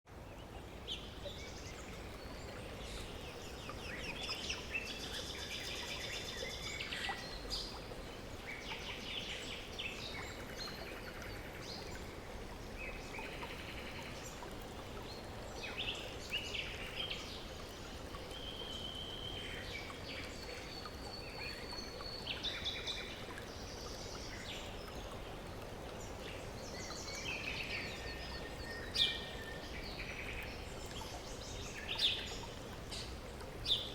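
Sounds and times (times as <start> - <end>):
flowing water: 0.1 - 33.9.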